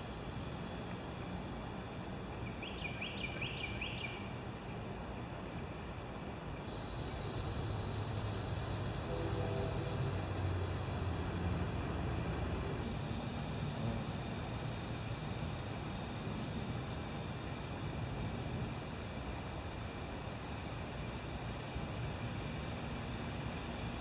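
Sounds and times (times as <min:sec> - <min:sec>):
chorus of insects: 0:00.0 - 0:05.0, 0:06.6 - 0:24.0.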